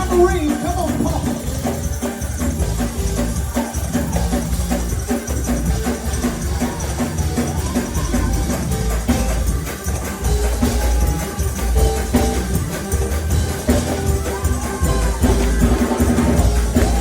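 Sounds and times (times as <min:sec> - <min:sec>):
fast gospel music: 0:00.0 - 0:17.0
tambourines beaten: 0:00.0 - 0:17.0.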